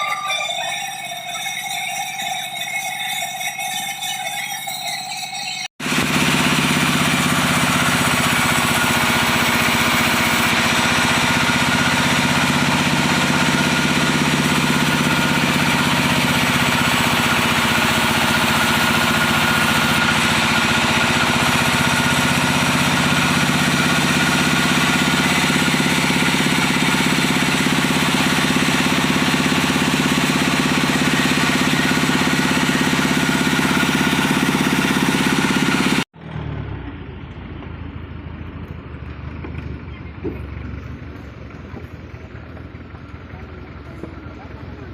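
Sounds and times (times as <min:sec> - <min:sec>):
diesel engine running steadily: 0:05.8 - 0:44.9.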